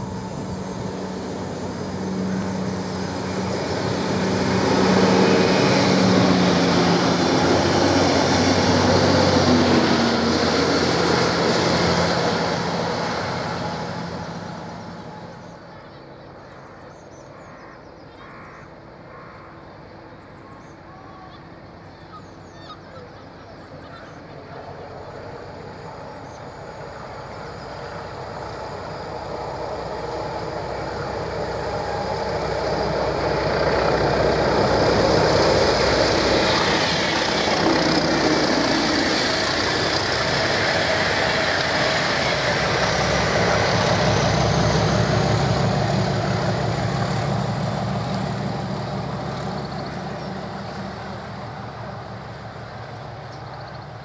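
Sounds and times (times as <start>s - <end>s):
diesel train passing: 0.0s - 54.0s.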